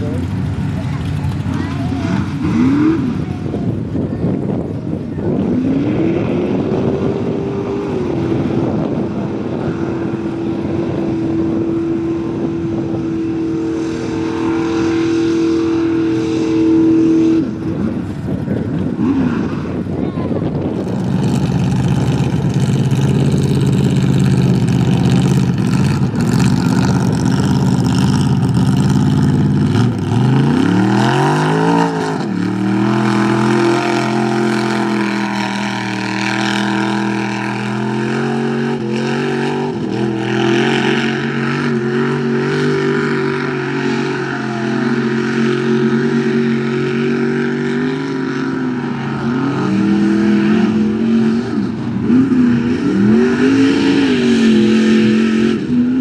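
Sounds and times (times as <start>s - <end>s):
truck engine revving hard: 0.0s - 4.6s, 5.2s - 56.0s.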